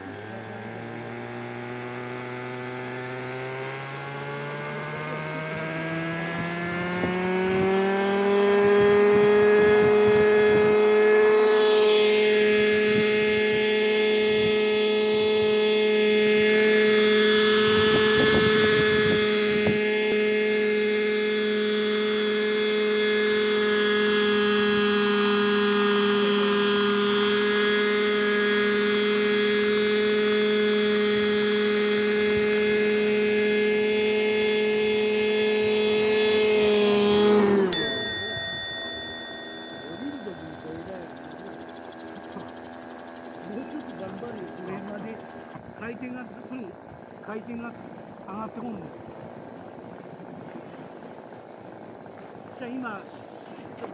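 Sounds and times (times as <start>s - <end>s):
model helicopter engine and rotor: 0.0s - 53.9s.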